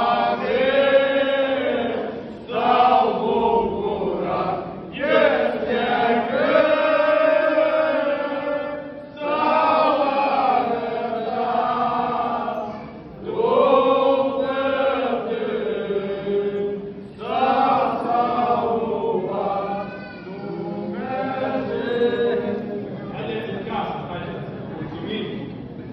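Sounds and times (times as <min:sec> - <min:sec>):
men singing a carol unaccompanied: 0:00.0 - 0:23.8.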